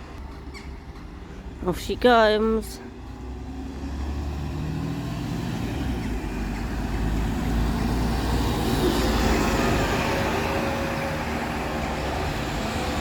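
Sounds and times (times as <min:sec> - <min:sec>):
bus engine pulling off: 0:00.0 - 0:13.0.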